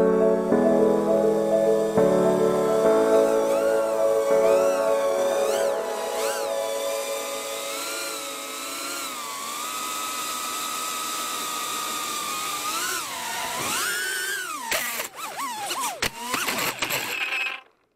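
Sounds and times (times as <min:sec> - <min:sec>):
drone motors whining: 0:00.0 - 0:17.5.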